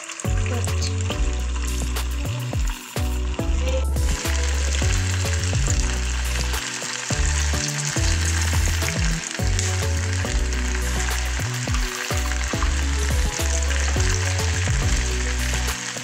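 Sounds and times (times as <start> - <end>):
background music: 0.0 - 16.0
oil sizzling: 0.0 - 16.0.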